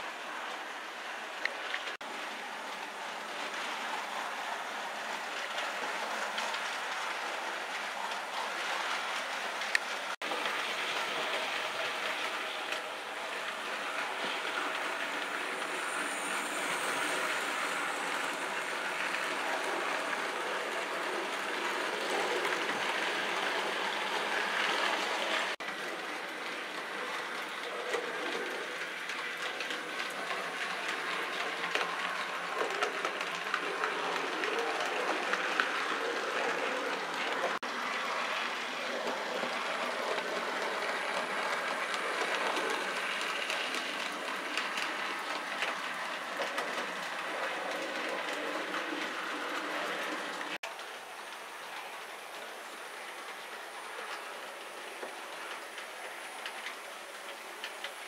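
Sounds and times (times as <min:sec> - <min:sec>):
model trains rolling on track: 0:00.0 - 0:58.0.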